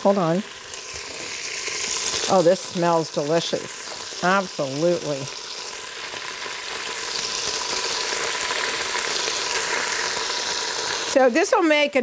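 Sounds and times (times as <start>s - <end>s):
meat sizzling in hot oil: 0.0s - 11.6s.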